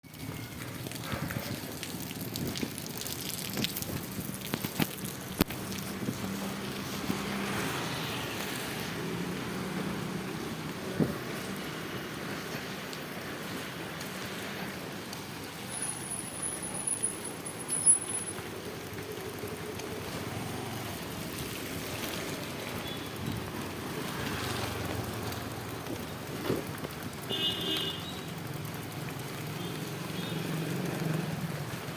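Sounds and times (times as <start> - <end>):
vehicle engines running: 0.0 - 31.9
steady traffic hiss: 4.1 - 31.9.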